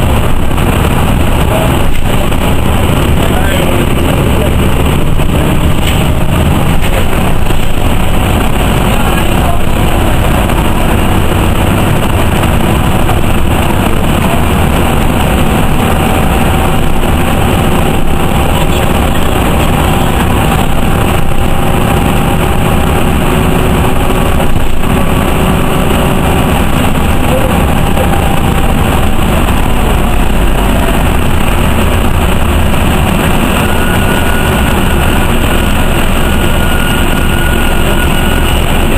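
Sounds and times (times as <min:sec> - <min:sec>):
bus engine and road noise: 0:00.0 - 0:38.9
faint whine: 0:00.0 - 0:38.9.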